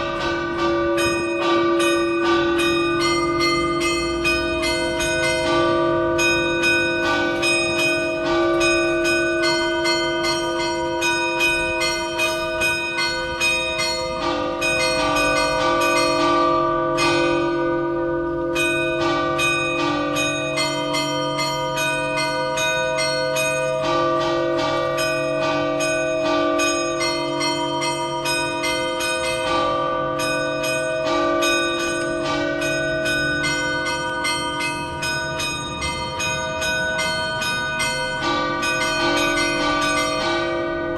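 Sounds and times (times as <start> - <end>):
deep low bell note: 0.0 - 40.9
tower bells chiming: 0.0 - 40.9.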